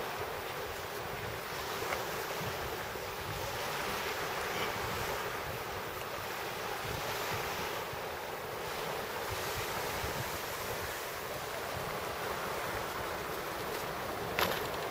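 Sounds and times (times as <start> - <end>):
waves washing onto pebbles: 0.0 - 14.9
wind buffeting microphone: 0.0 - 14.9.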